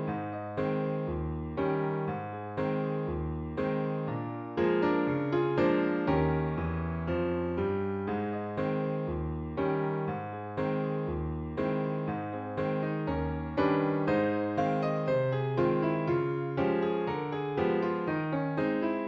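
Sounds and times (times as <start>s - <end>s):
electric piano chords: 0.0s - 19.0s.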